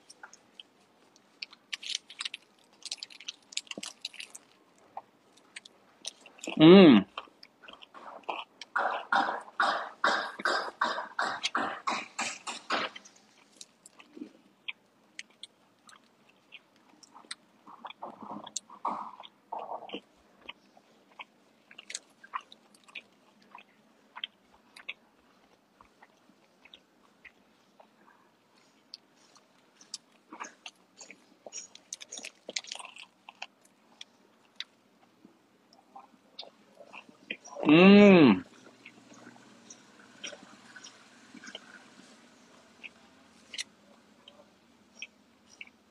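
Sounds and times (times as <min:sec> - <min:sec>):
person chewing sandwich: 0:00.0 - 0:45.9.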